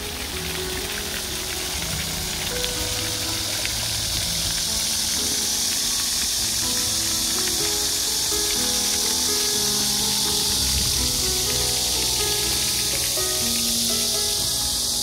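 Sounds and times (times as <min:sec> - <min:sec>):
background music: 0:00.0 - 0:15.0
fountain water jets splashing: 0:00.0 - 0:15.0.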